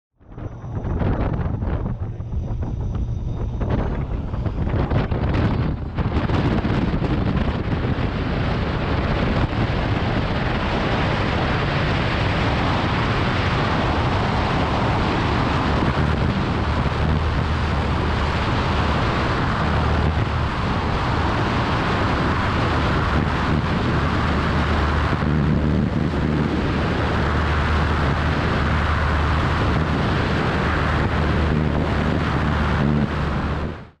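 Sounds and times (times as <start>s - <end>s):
aircraft engine running: 0.2s - 34.0s
wind rush on microphone: 0.2s - 34.0s.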